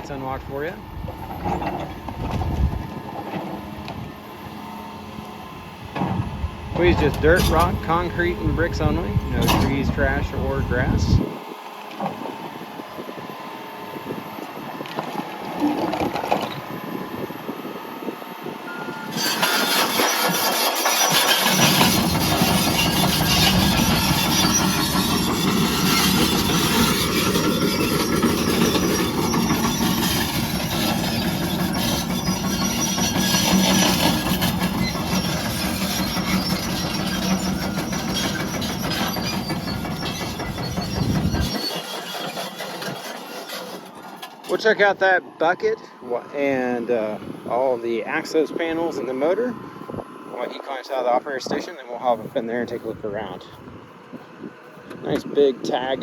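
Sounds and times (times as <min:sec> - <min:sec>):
excavator diesel engine and hydraulics: 0:00.0 - 0:56.0.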